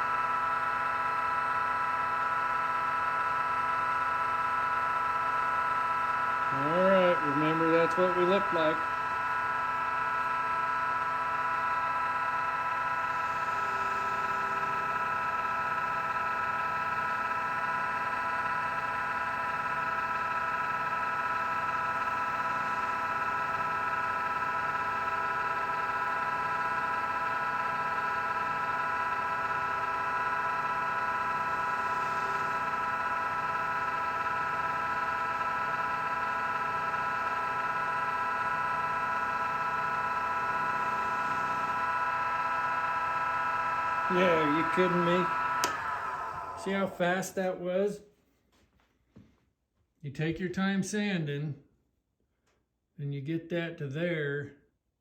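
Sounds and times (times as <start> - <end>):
lathe motor whining: 0.0 - 47.6.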